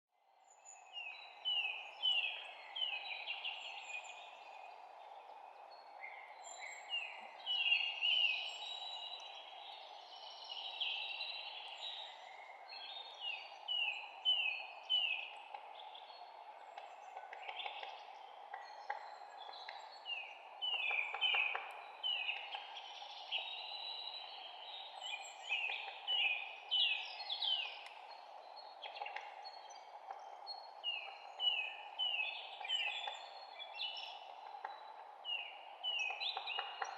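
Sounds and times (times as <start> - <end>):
songbirds chirping and singing: 0.4 - 36.9.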